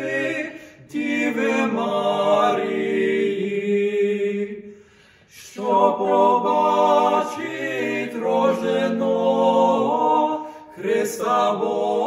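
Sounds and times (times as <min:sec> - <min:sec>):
voices singing a cappella: 0:00.0 - 0:12.0.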